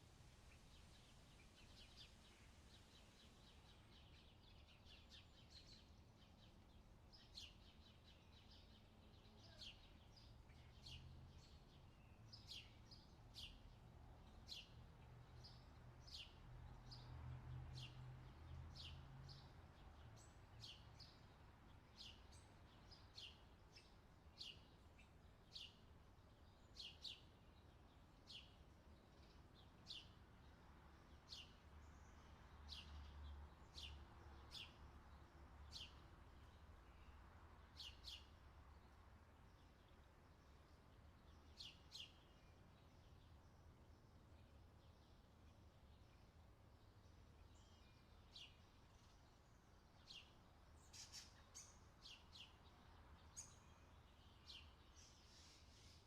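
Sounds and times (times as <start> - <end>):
bird chirping: 0.5 - 17.1, 17.7 - 56.0.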